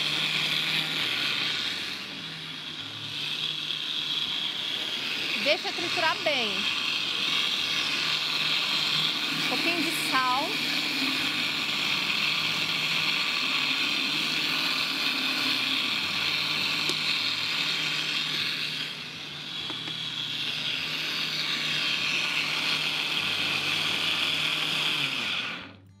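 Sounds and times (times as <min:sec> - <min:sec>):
blender running: 0:00.0 - 0:26.0.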